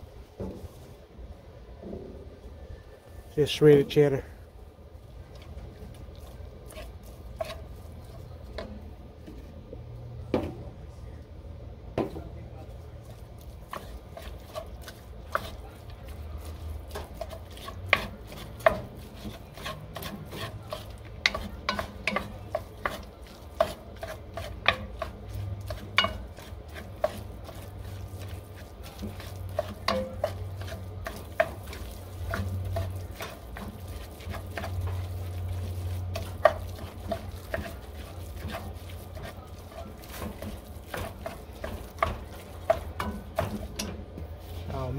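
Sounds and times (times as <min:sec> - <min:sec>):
wooden spoon scraping a pot: 0:05.3 - 0:09.6, 0:13.0 - 0:44.9.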